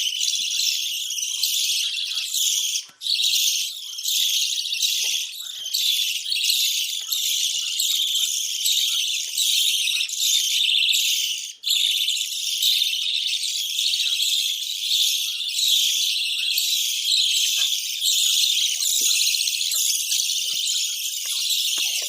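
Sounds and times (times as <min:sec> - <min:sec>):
budgerigars warbling and chattering: 0:00.0 - 0:22.0.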